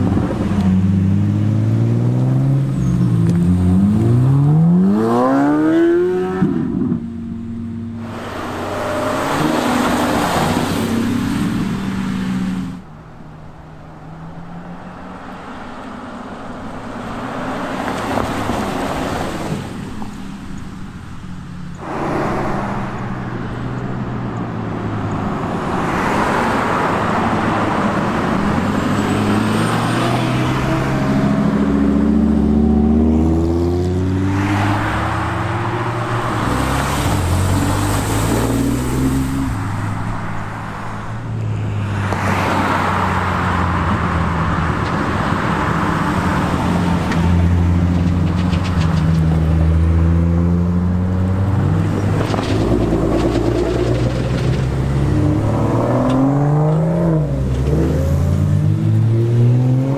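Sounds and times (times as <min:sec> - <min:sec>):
cars accelerating past: 0:00.0 - 0:12.8, 0:21.8 - 0:59.9.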